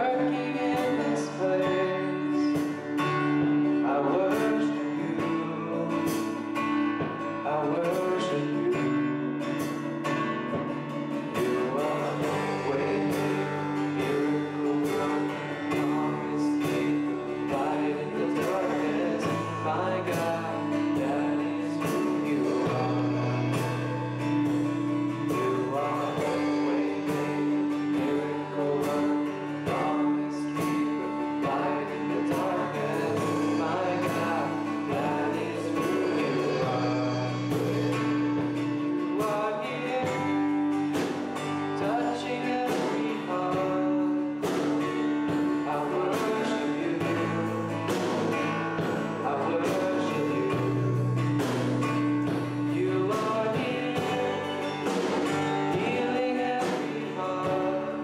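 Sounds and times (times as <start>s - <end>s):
voices singing along: 0.0s - 9.4s, 10.4s - 58.0s
drums: 0.0s - 58.0s
second guitar: 0.0s - 58.0s
strummed acoustic guitar: 0.0s - 58.0s.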